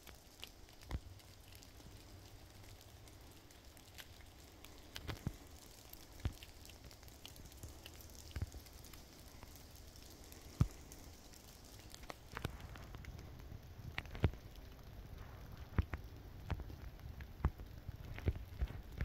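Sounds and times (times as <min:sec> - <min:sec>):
twigs crackling: 0:00.0 - 0:19.0.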